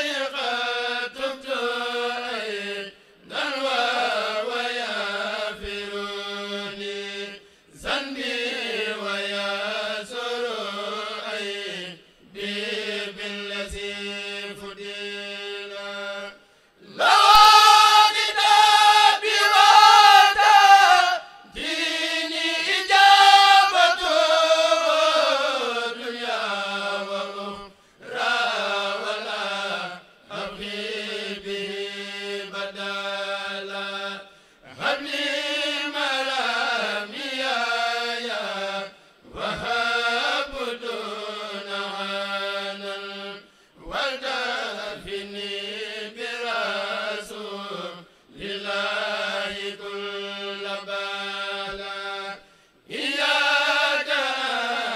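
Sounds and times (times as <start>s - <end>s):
group of men chanting: 0.0s - 54.9s.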